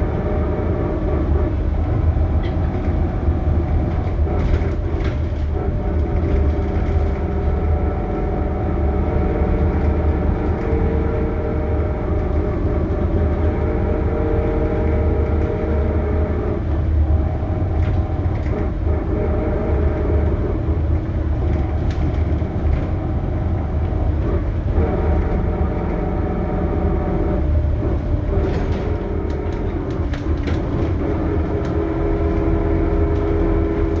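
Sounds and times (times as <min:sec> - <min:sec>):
bus engine droning: 0:00.0 - 0:34.0.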